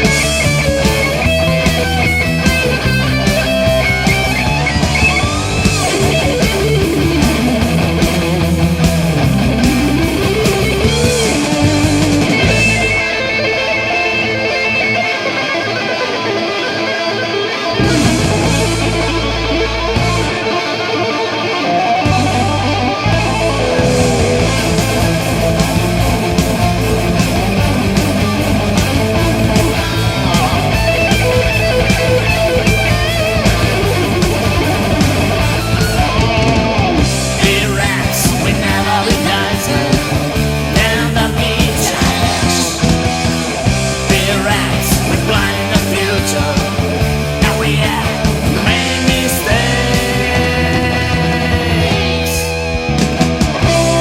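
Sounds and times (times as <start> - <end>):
bass and drums: 0.0 - 15.1, 17.8 - 20.8, 21.9 - 54.0
electric guitar: 0.0 - 54.0.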